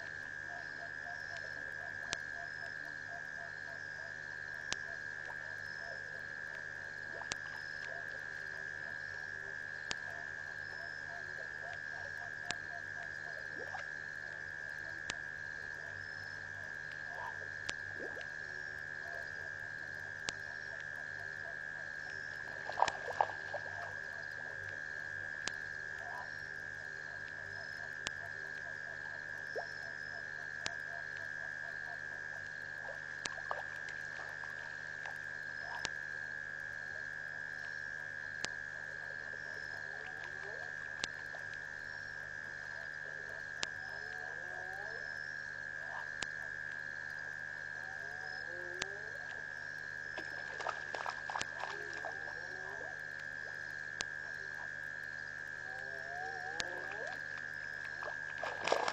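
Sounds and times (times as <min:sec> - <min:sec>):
frogs calling: 0:00.0 - 0:58.9.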